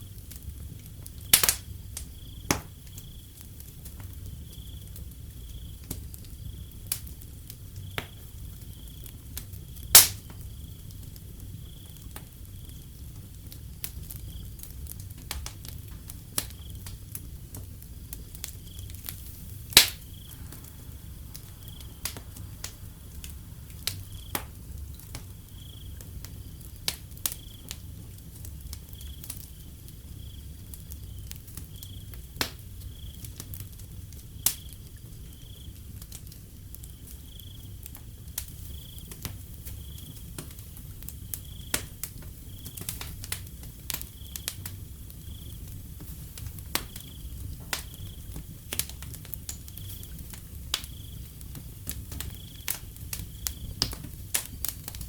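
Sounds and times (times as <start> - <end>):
wood fire crackling and popping: 0.0 - 55.0
crickets chirping: 1.2 - 36.0, 36.6 - 55.0.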